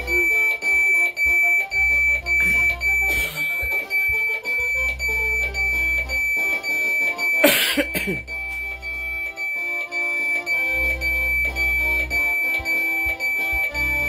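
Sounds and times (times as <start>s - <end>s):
high steady beeping tone: 0.0s - 14.0s
loud music from smart speaker: 0.0s - 14.0s.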